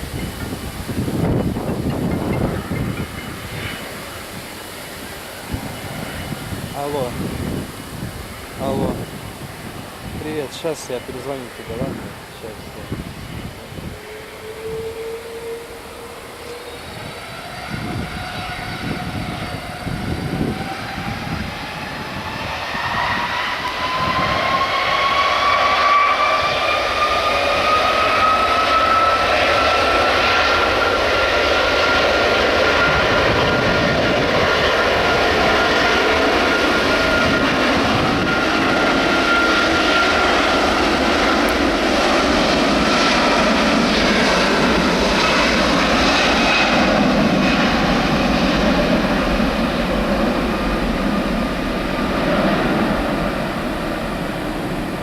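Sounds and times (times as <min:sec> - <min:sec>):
jet engines spooling up: 0:00.0 - 0:55.0.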